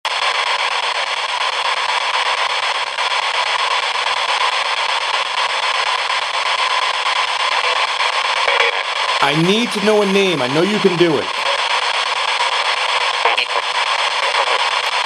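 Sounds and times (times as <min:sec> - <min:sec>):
radio static hiss: 0:00.1 - 0:15.0.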